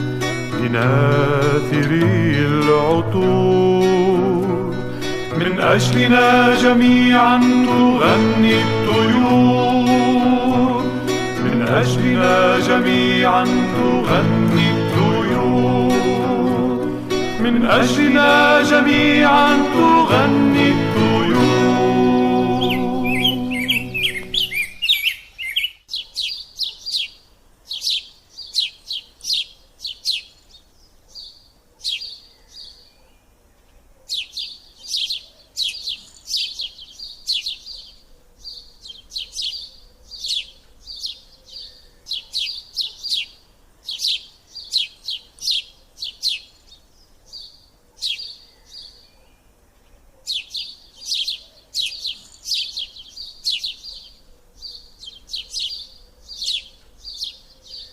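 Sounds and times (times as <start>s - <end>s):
canaries chirping: 0.0s - 57.9s.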